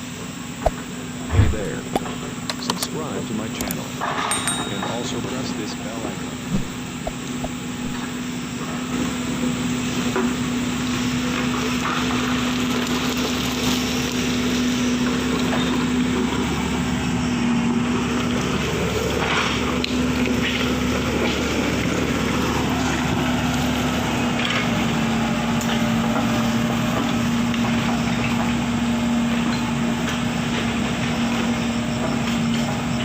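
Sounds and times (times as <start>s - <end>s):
machinery engine running under load: 0.0s - 33.0s.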